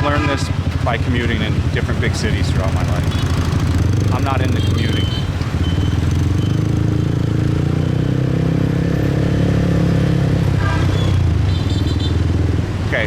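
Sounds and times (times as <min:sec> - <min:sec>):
motorbike engine running: 0:00.0 - 0:12.9
street traffic: 0:00.0 - 0:13.0.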